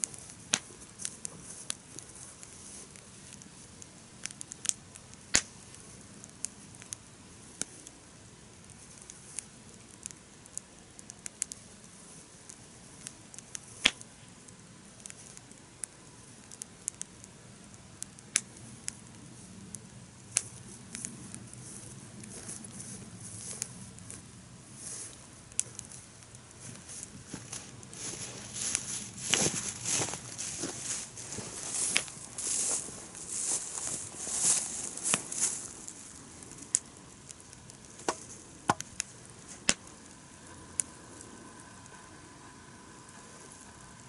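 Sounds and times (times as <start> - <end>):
campfire crackling and popping: 0.0 - 44.0
low hiss: 0.0 - 44.0.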